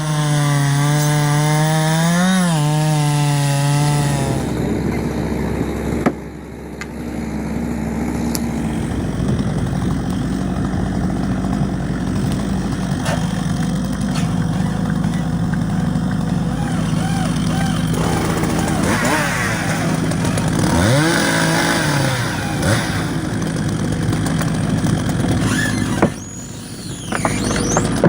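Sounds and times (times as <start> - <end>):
chainsaw running at high revs: 0.0 - 6.0, 7.1 - 28.0
rough engine running: 4.2 - 28.0.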